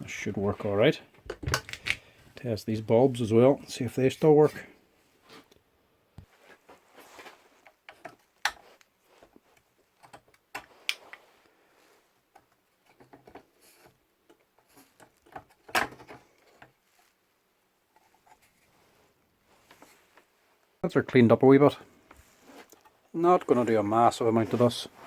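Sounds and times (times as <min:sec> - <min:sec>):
hands handling radio parts: 0:00.4 - 0:02.4, 0:05.2 - 0:20.7, 0:21.9 - 0:25.0.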